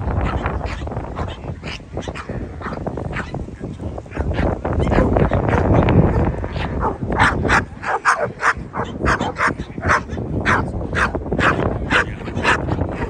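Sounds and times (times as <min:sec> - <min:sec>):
dog barking: 0:00.2 - 0:03.4, 0:04.1 - 0:13.0.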